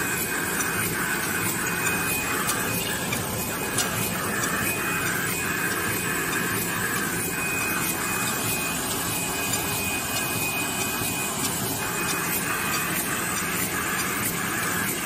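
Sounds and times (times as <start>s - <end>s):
gluing machine whirring: 0.0s - 15.0s
machine cycle pulsing: 0.0s - 15.0s.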